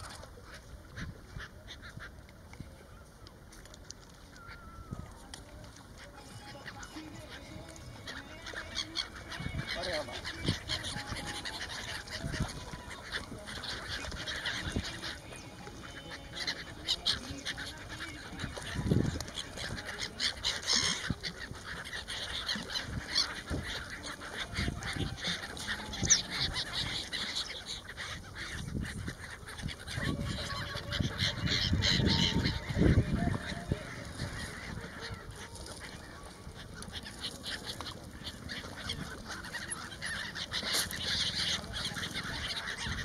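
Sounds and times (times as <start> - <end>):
gulls calling: 0.0 - 43.0.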